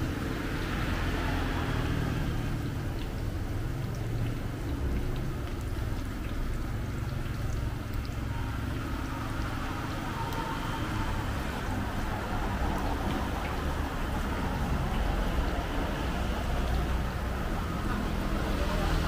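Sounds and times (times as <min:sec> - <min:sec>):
oil sizzling with small pops: 0:00.0 - 0:19.0.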